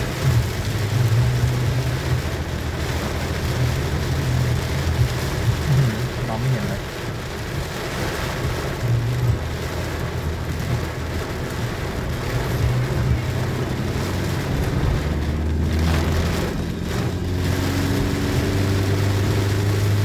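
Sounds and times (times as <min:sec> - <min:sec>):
car engine and road drone: 0:00.0 - 0:20.0
rain hissing: 0:00.0 - 0:20.0.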